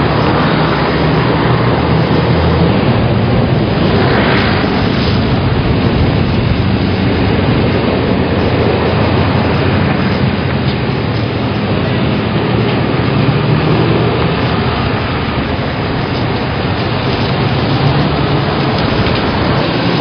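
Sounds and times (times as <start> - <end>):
bus engine running low: 0.0 - 20.0
street traffic noise: 0.0 - 20.0.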